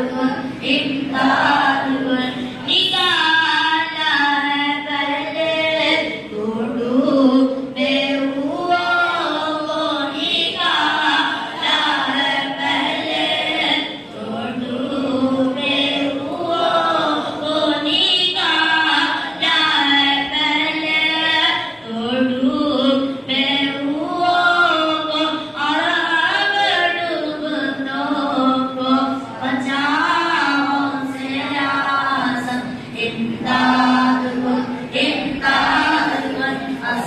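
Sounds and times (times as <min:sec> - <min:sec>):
boy singing unaccompanied: 0:00.0 - 0:37.0.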